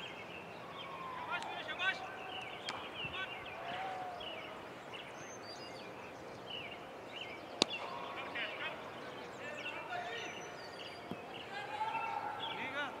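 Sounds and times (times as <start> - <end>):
faint distant voices: 0.0 - 13.0
small birds chirping: 0.0 - 13.0.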